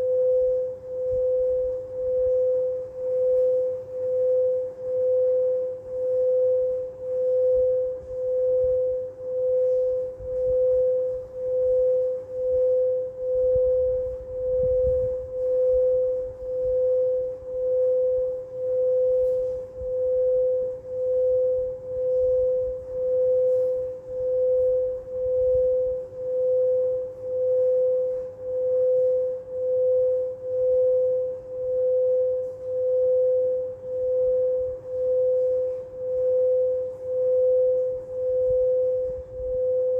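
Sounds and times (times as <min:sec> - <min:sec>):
singing bowl sustained tone: 0:00.0 - 0:39.9.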